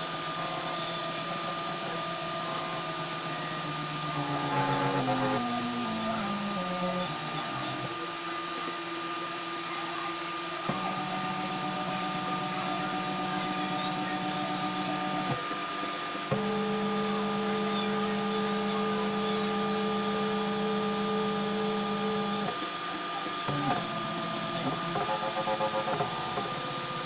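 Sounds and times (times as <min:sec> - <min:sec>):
stepper motors whining: 0:00.0 - 0:27.0.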